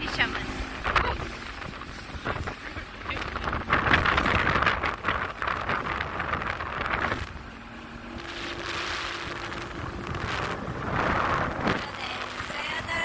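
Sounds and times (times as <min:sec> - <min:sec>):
outboard motor humming: 0:00.0 - 0:13.0
wind buffeting microphone: 0:00.0 - 0:13.0.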